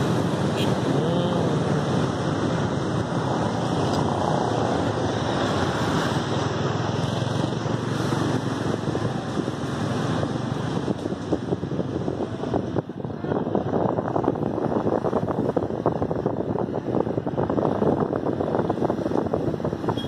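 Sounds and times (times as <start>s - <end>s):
traffic on flooded road: 0.0s - 20.0s
wind on microphone: 0.0s - 20.0s.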